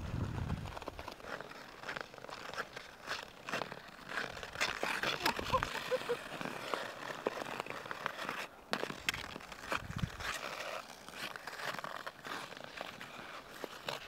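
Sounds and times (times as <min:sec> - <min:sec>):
skate blades scraping on ice: 0:00.0 - 0:14.0.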